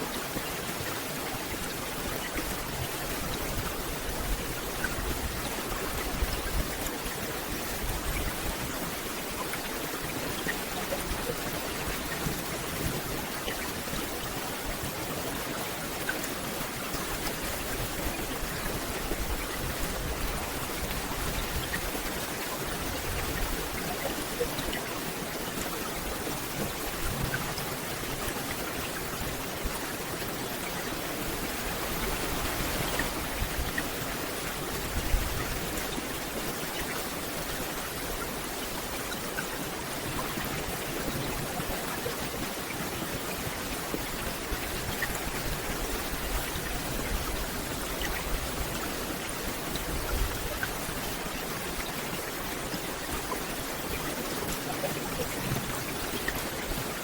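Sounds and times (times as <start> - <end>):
steady rain on foliage: 0.0 - 57.0.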